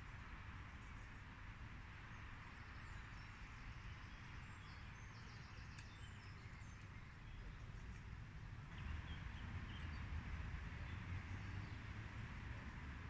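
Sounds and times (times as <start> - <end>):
steady hiss and low rumble: 0.0 - 13.0.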